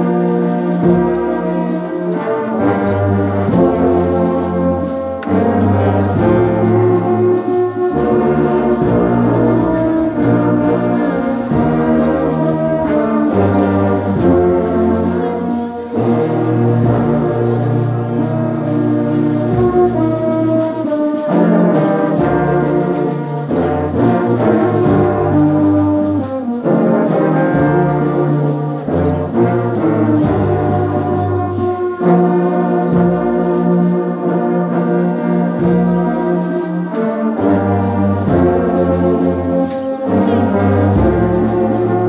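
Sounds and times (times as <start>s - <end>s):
brass band playing slow chords: 0.0s - 42.0s.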